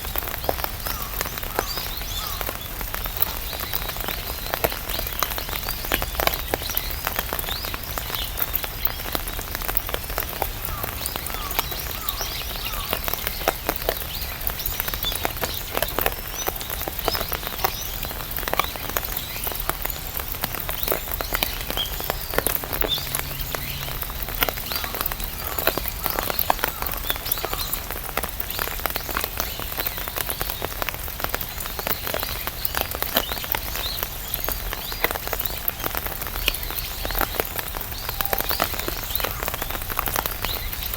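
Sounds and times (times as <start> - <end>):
rain tapping on an umbrella: 0.0 - 40.9.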